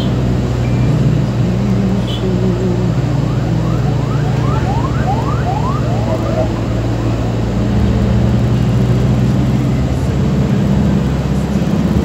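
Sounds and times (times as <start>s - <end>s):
van engine hum: 0.0s - 12.0s.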